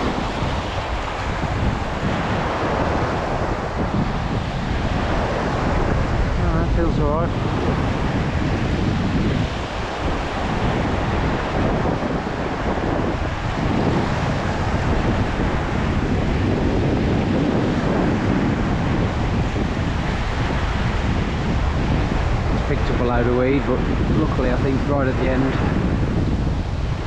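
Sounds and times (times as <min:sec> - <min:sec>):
sea surf breaking: 0:00.0 - 0:27.0
wind buffeting microphone: 0:00.0 - 0:27.0.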